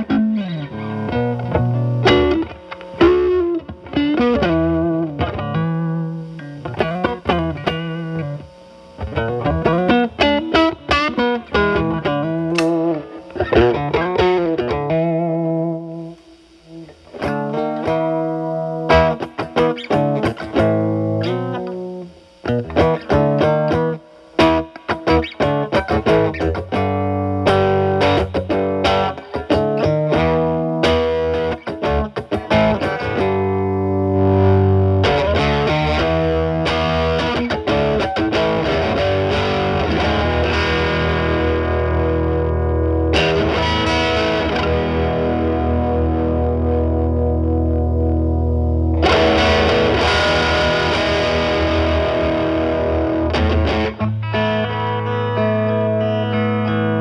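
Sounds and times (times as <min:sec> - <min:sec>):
overdriven electric guitar chords: 0:00.0 - 0:57.0.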